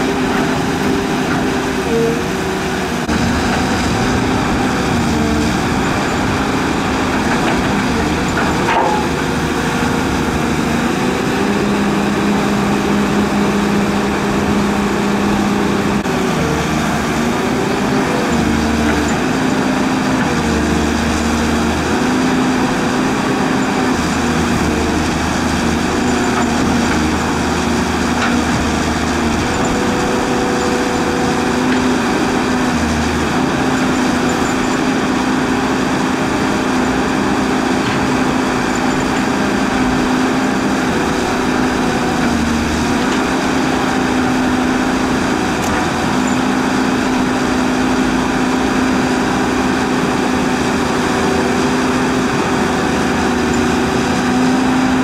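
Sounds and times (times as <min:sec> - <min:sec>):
excavator engine and hydraulic whine: 0:00.0 - 0:55.0.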